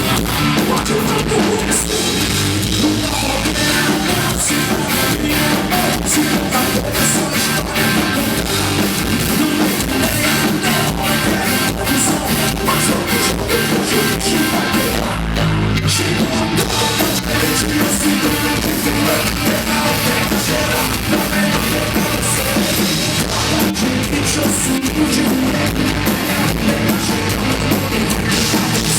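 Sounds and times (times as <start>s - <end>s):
drum kit: 0.0s - 28.9s
electric guitar: 0.0s - 28.9s
person singing: 0.6s - 28.9s.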